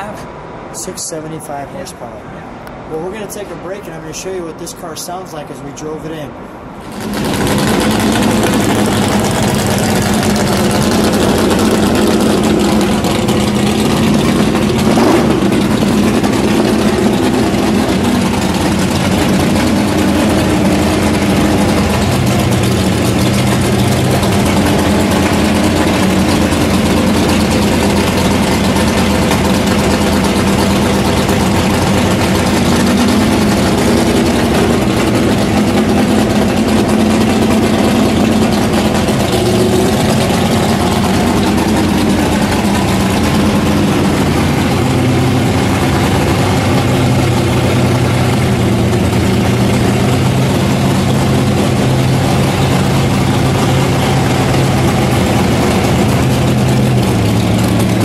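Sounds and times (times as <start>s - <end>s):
loud car engine running: 6.6s - 58.0s.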